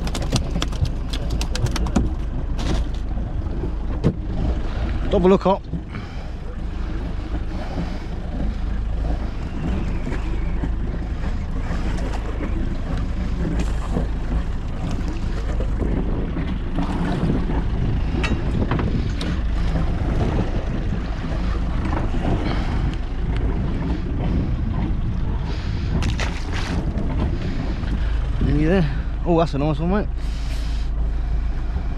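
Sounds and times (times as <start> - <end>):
wind buffeting microphone: 0.0 - 30.2
sea water rushing around boat: 0.0 - 31.9.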